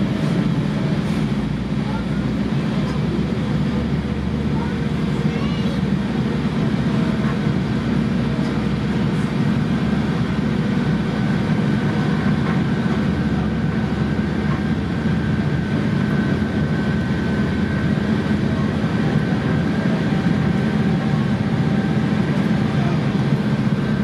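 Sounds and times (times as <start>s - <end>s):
train coach rumbling: 0.0s - 24.0s.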